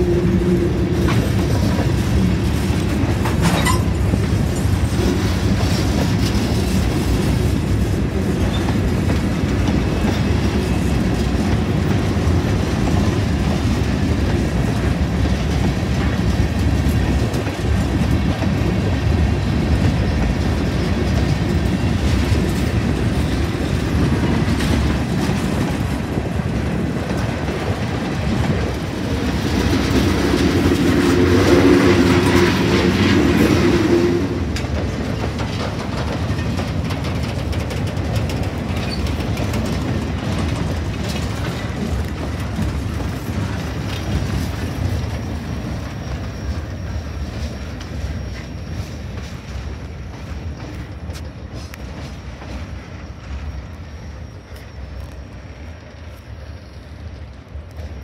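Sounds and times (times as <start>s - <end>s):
train wheels clattering over rails: 0.0s - 58.0s.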